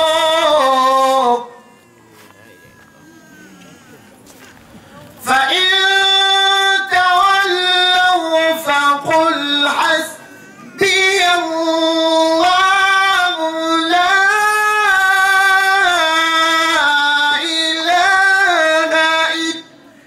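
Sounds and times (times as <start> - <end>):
man chanting a devotional song: 0.0 - 19.9.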